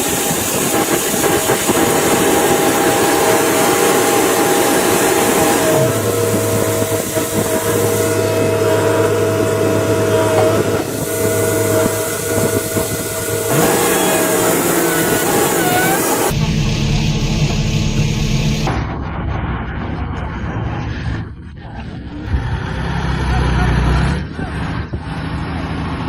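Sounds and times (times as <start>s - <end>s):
construction machinery diesel engine: 0.0s - 26.0s
high hydraulic whine: 0.0s - 26.0s.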